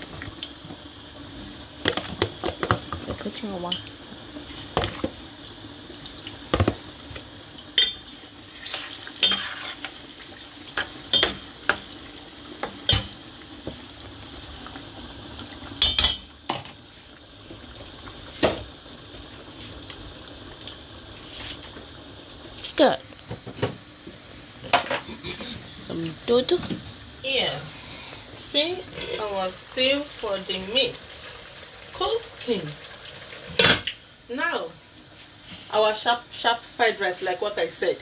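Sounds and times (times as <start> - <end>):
slices sizzling in hot oil: 0.0 - 38.0.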